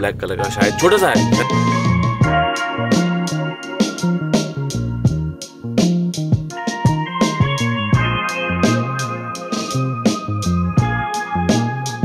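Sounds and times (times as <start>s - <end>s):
background music with drum beat: 0.4s - 12.0s.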